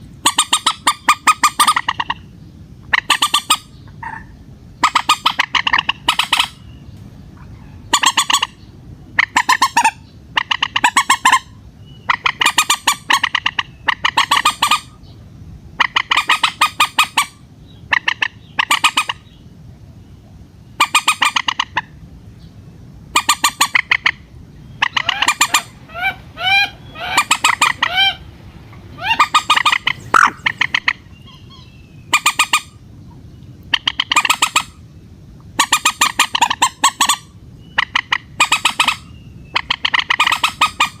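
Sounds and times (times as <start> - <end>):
moorhen squawking: 0.2 - 2.3, 2.9 - 6.8, 7.4 - 15.1, 15.8 - 19.4, 20.8 - 22.0, 23.1 - 32.8, 33.7 - 34.8, 35.5 - 41.0.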